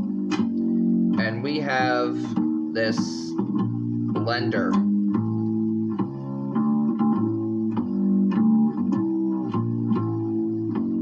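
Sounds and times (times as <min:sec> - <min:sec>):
plucked guitar and bass tune: 0:00.0 - 0:11.0.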